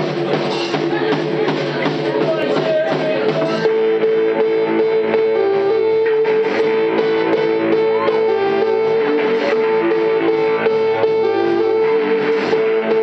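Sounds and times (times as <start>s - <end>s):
live pop band playing: 0.0s - 13.0s.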